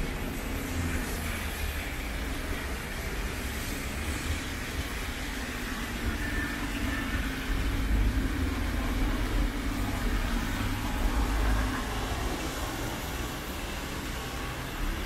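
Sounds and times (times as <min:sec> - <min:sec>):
heavy rain hissing: 0:00.0 - 0:15.0
vehicle engine humming: 0:00.0 - 0:15.0.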